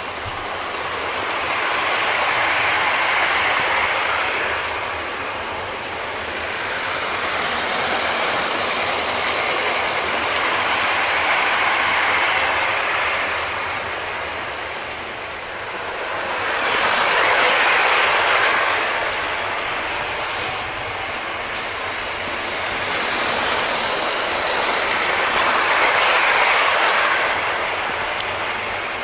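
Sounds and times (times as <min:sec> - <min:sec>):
model trains whirring on track: 0:00.0 - 0:29.0.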